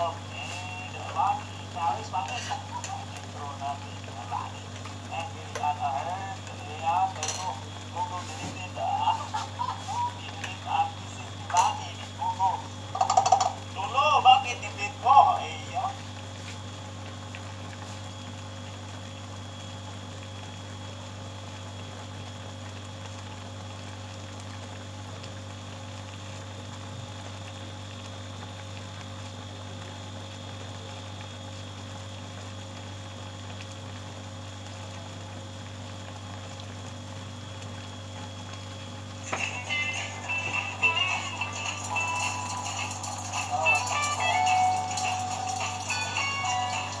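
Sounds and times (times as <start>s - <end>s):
faint bubbling: 0.0s - 43.8s
liquid simmering in a wok: 0.0s - 47.0s
low steady hum: 0.0s - 47.0s.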